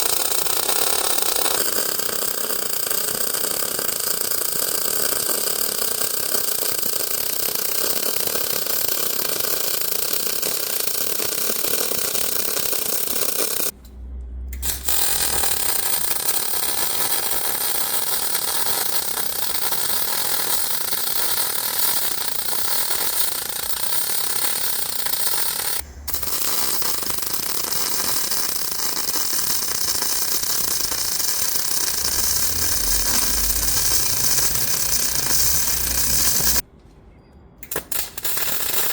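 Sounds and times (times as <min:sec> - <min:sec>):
arc welding on steel: 0:00.0 - 0:13.8, 0:14.6 - 0:36.6, 0:37.6 - 0:38.9.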